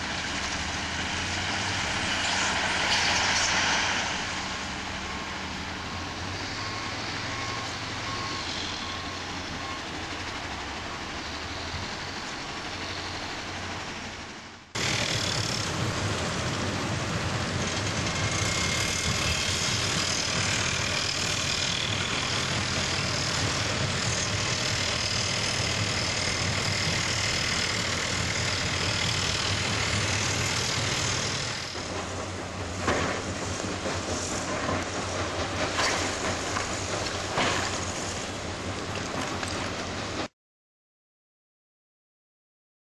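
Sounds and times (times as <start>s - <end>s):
construction machinery engine hum: 0.0s - 40.3s.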